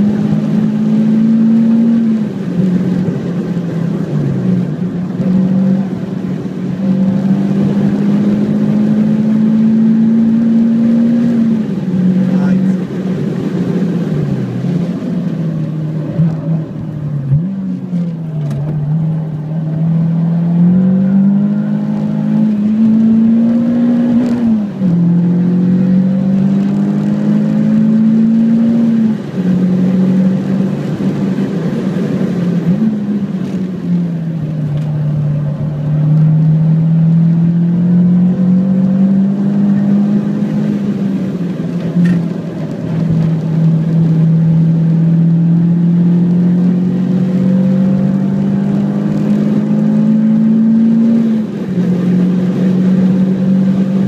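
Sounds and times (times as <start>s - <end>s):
car engine pulling hard: 0.0s - 54.0s
tyre and road noise: 0.0s - 54.0s.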